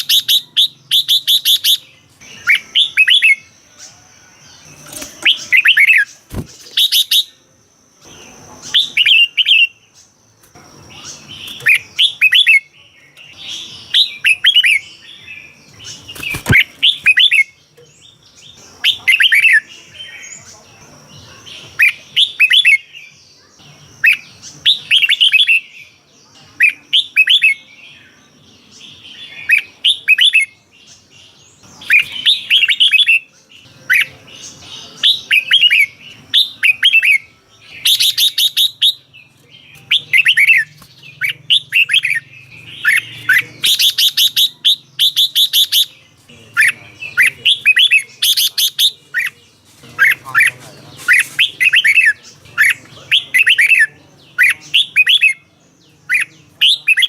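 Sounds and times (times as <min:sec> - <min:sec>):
bird warbling and chirping: 0:00.0 - 0:57.0.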